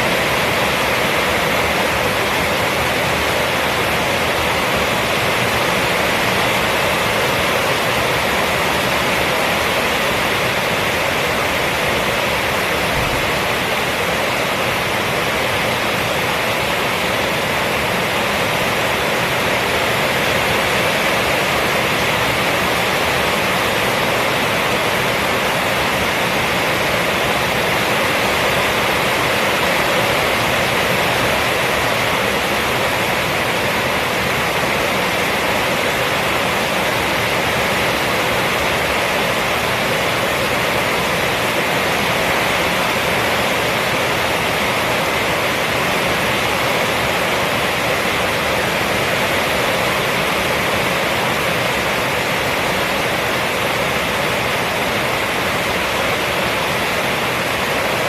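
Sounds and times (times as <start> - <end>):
rain on a roof: 0.0 - 58.0.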